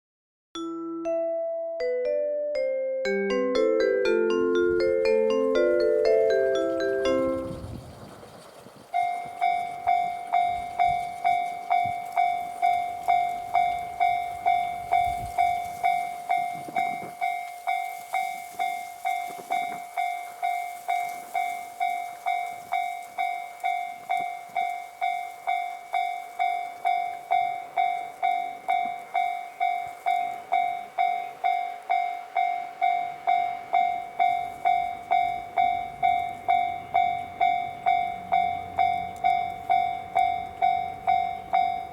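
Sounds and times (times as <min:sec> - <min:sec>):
crossing signal electronic bell: 0:00.6 - 0:08.2, 0:08.9 - 0:41.9.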